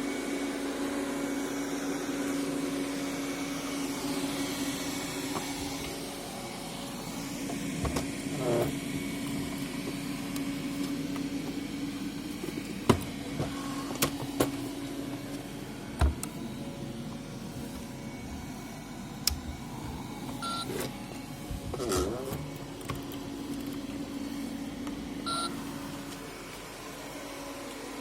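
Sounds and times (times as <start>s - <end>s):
robot vacuum motor hum: 0.0s - 28.0s.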